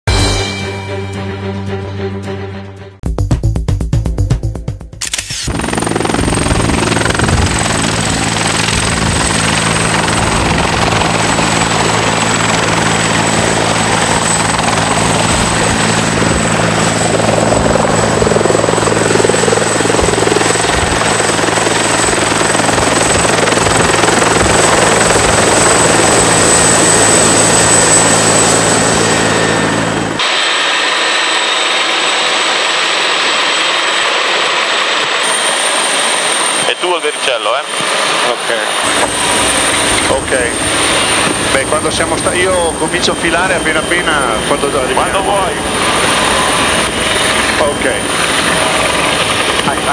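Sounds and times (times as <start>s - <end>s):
helicopter rotor drone: 5.0s - 49.9s
high turbine whine: 5.0s - 49.9s.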